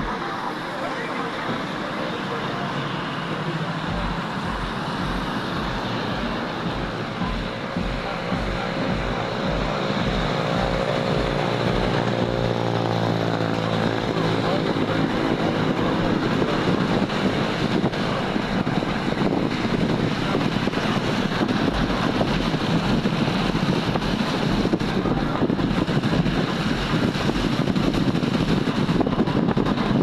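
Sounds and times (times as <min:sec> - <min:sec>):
road traffic noise: 0:00.0 - 0:30.0
wind buffeting microphone: 0:01.4 - 0:30.0.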